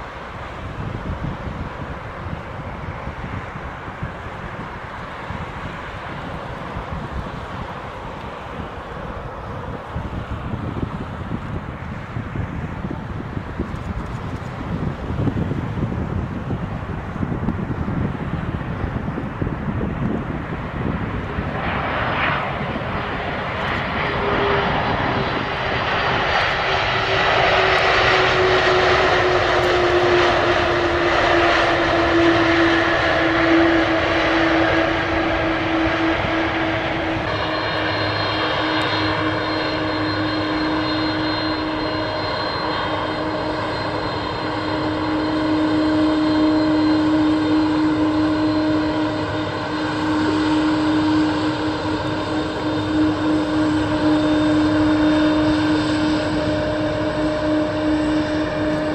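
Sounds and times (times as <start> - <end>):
jet engines whining: 0.0 - 58.9.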